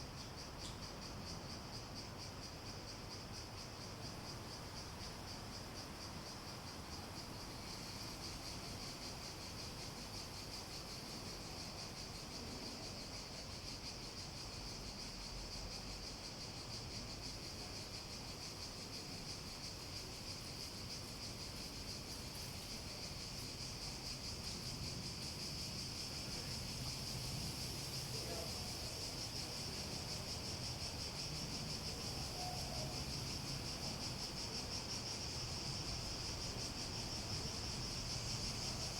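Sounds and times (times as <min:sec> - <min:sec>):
cicadas droning: 0:00.0 - 0:38.9.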